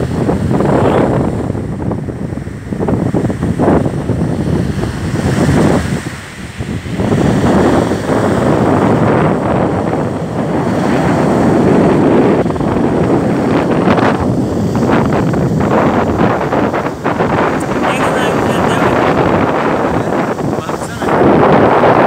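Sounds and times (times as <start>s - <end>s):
rough sea breaking: 0.0s - 22.0s
wind buffeting microphone: 0.0s - 22.0s.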